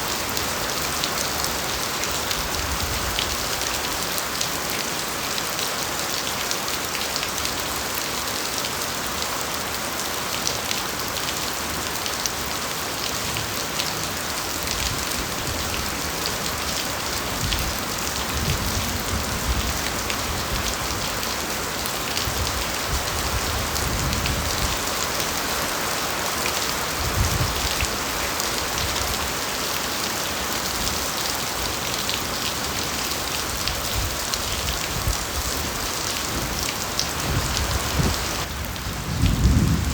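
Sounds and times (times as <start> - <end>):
rain falling on bamboo: 0.0 - 39.9.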